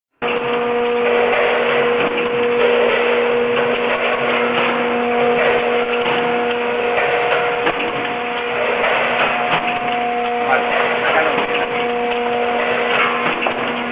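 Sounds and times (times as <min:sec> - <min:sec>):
mechanical clicks and knocks: 0:00.2 - 0:13.9
packaging machine hum: 0:00.2 - 0:13.9.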